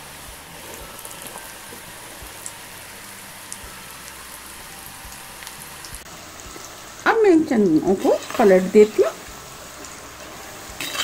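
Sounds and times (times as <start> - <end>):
deep-frying sizzle: 0.0 - 11.0
oil crackles and pops: 0.3 - 7.0, 7.6 - 11.0.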